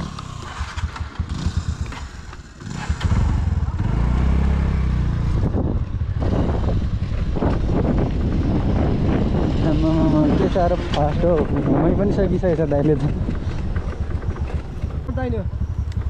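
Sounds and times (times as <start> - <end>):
small motorbike engine accelerating: 0.0 - 16.0.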